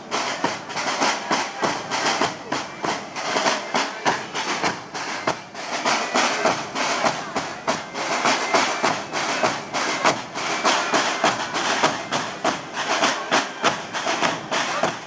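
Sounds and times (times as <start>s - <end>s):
drum band playing: 0.0s - 15.0s.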